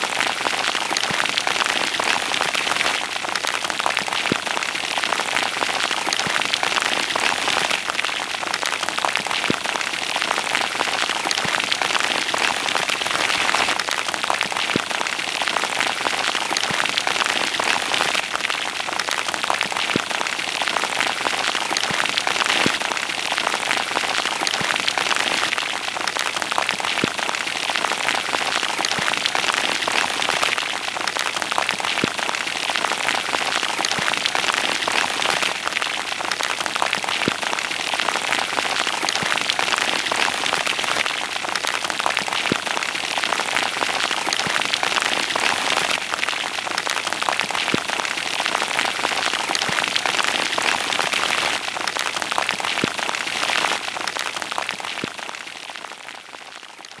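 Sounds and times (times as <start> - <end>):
heavy rain on water: 0.0 - 57.0
sharp raindrop ticks: 0.0 - 57.0.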